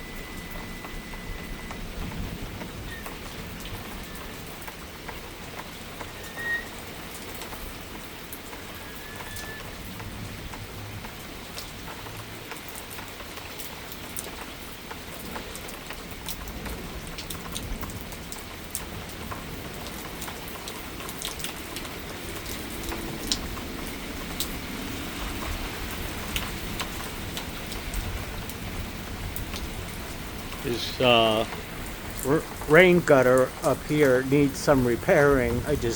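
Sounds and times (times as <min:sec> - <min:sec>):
heavy rain: 0:00.0 - 0:35.9
raindrops ticking close by: 0:00.0 - 0:35.9.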